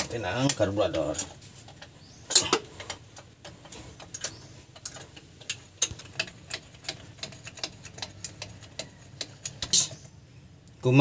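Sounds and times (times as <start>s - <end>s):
hand tools clicking on metal: 0.0s - 10.1s.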